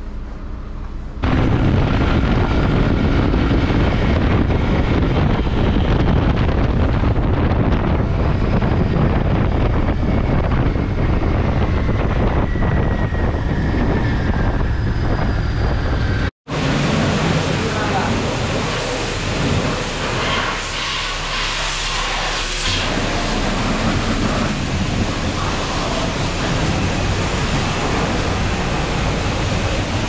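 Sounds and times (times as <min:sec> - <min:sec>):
wind rush on microphone: 0:01.1 - 0:30.0.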